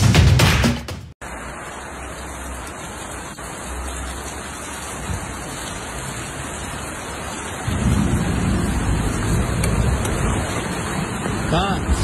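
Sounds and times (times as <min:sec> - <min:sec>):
steady rain falling: 0:01.2 - 0:12.0.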